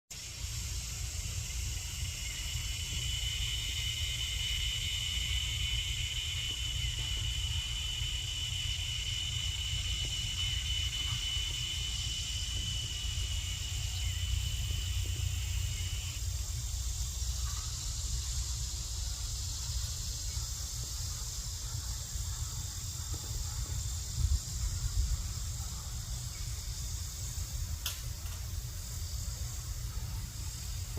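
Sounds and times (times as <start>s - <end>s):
insects trilling: 0.1s - 30.9s.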